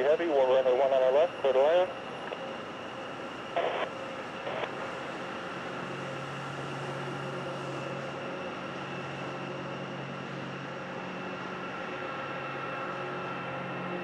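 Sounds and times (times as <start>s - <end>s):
aircraft engines running: 0.0s - 14.0s.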